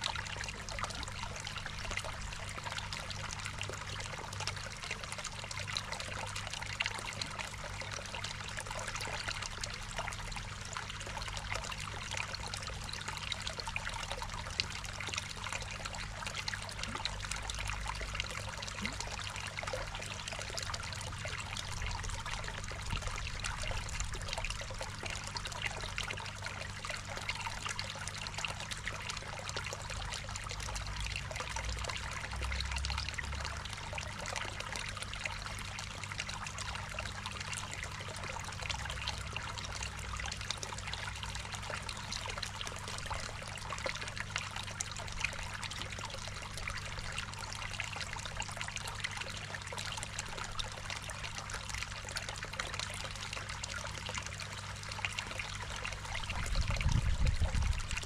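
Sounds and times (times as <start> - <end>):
low steady hum: 0.0 - 58.0
water trickling into a pond: 0.0 - 58.0.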